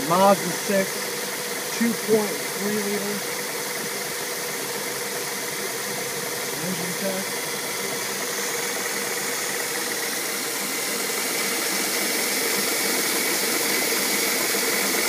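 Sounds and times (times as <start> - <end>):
car engine idling: 0.0 - 13.1
engine hiss: 0.0 - 15.0.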